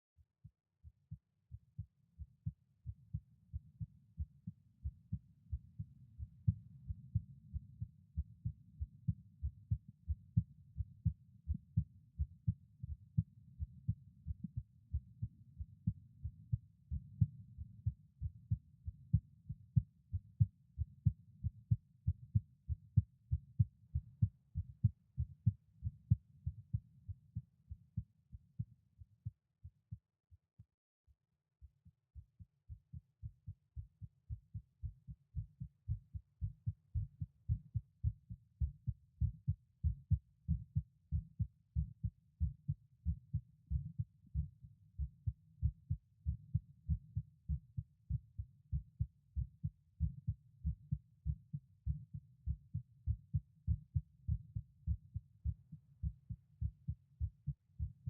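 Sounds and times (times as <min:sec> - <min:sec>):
heartbeat through stethoscope: 0:00.4 - 0:30.7, 0:31.6 - 0:58.0.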